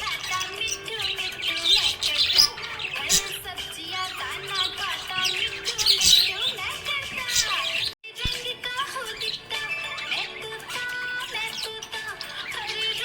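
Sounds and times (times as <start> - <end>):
budgerigars chirping and warbling: 0.0 - 8.0, 8.9 - 13.0.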